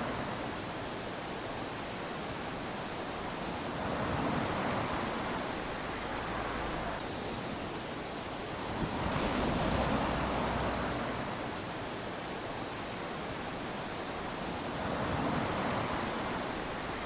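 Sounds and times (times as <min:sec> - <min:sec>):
waves lapping on a beach: 0:00.0 - 0:17.0.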